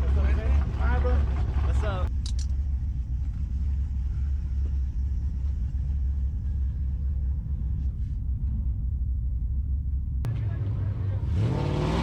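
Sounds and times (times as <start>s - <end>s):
vehicle engines idling: 0.0s - 11.8s.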